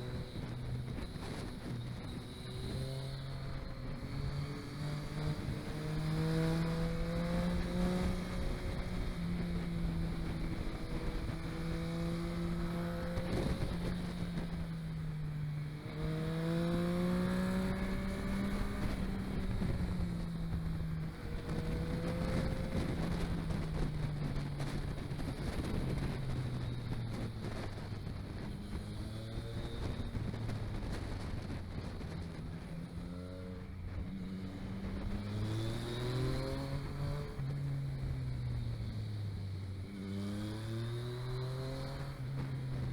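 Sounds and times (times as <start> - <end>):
vehicle engine accelerating: 0.0 - 42.9.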